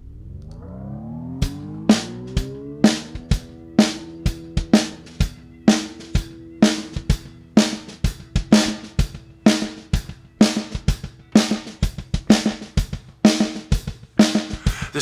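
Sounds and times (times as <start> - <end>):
rock drum kit beat: 1.4 - 15.0.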